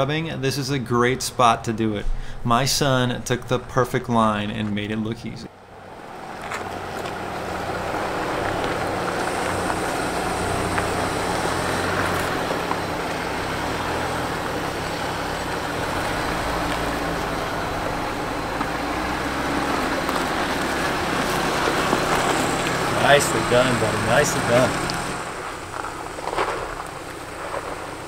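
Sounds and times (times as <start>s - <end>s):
engine running low and steady: 5.5s - 28.0s.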